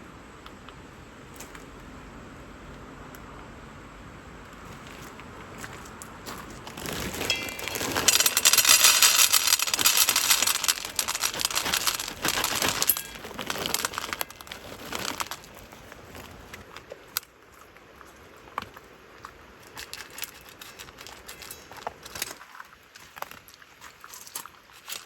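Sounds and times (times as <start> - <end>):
dense crinkling crackling: 4.4 - 25.0.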